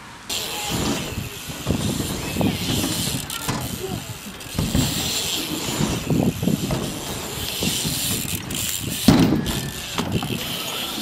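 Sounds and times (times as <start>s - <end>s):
bike parts clicking and rattling: 0.3s - 11.0s.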